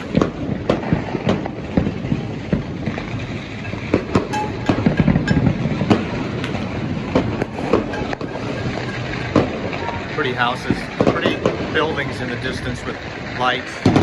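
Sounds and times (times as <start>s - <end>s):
fireworks pops and bangs: 0.0s - 14.0s
wind rumble on microphone: 0.0s - 14.0s.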